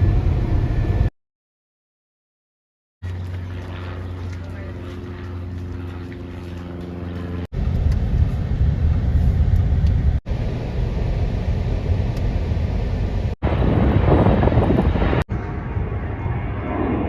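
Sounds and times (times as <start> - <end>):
aircraft engines rumbling: 0.0 - 1.1, 3.0 - 17.0.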